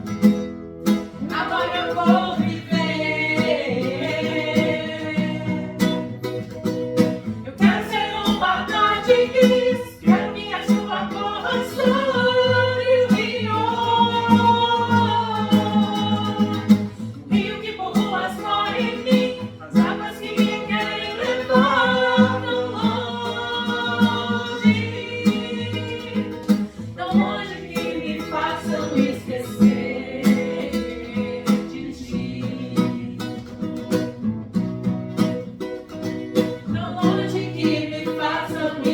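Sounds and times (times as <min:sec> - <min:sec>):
strummed acoustic guitar: 0:00.0 - 0:38.9
group singing in harmony: 0:01.1 - 0:06.4, 0:07.2 - 0:34.1, 0:36.4 - 0:38.9.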